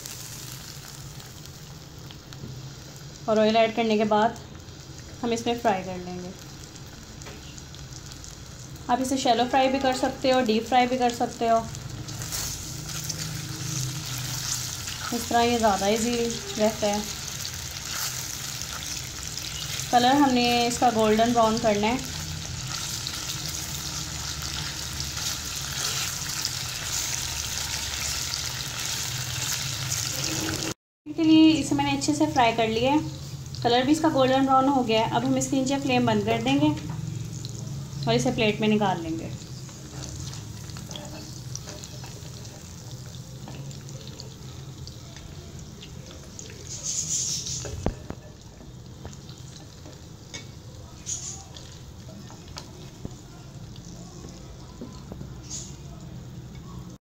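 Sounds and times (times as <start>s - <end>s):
meat sizzling in hot oil: 0.0s - 30.8s, 31.5s - 56.5s.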